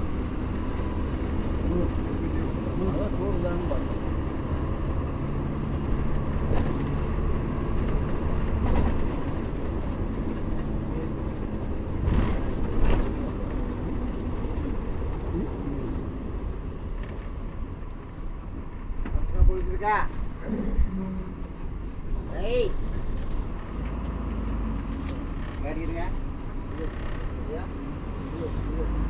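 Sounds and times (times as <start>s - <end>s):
bus engine running: 0.0s - 29.0s
road rumble: 0.0s - 29.0s.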